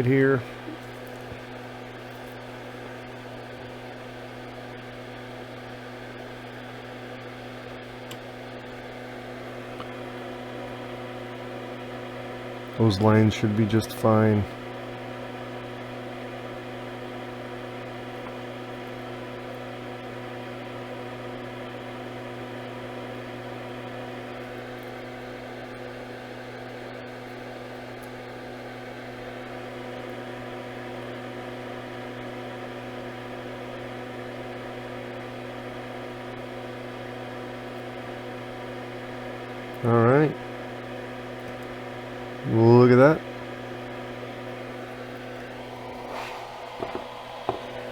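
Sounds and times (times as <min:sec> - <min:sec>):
electrical hum: 0:00.0 - 0:47.9.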